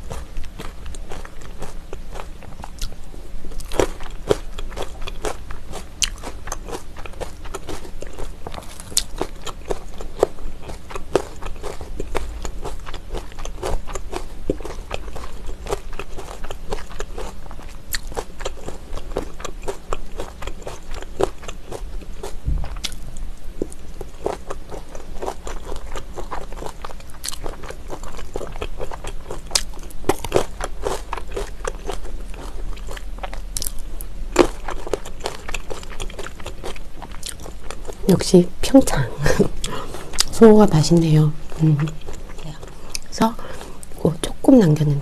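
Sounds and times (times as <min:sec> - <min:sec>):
chewing with mouth clicks: 0:00.0 - 0:38.1, 0:39.2 - 0:40.5, 0:41.4 - 0:44.4.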